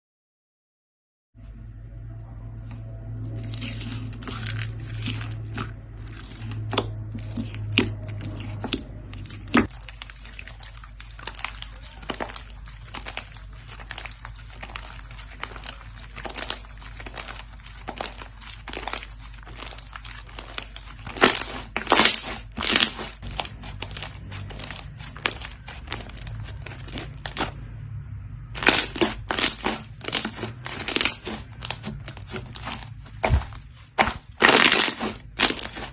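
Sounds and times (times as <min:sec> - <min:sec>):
slime crackling and popping: 0:03.3 - 0:27.6, 0:28.6 - 0:35.9.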